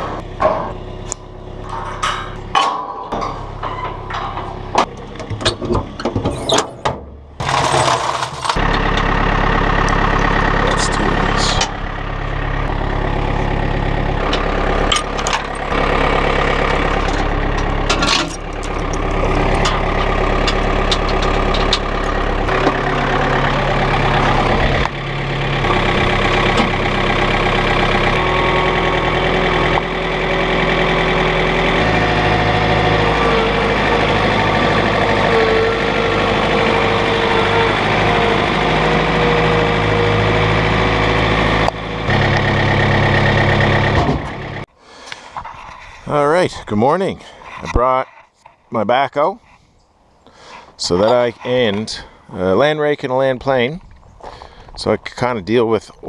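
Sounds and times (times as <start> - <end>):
digger diesel engine running: 0.0 - 48.5.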